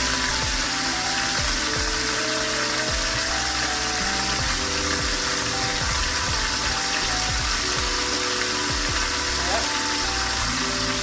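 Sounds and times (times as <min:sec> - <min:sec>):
background music: 0:00.0 - 0:11.0
meat sizzling in oil: 0:00.0 - 0:11.0.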